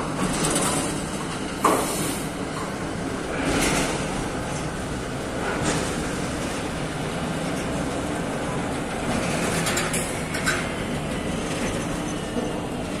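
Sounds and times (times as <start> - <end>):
crane mechanical rumble: 0.0 - 13.0.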